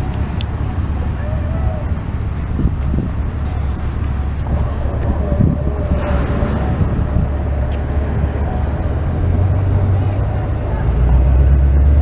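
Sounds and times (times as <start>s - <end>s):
road traffic idling: 0.0s - 12.0s
train rumbling: 0.0s - 12.0s.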